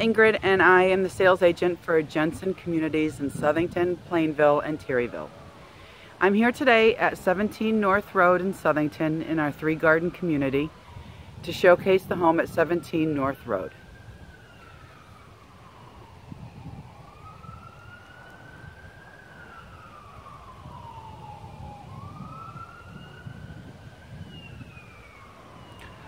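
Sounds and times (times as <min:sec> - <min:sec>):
faint siren wailing: 0:00.0 - 0:26.0.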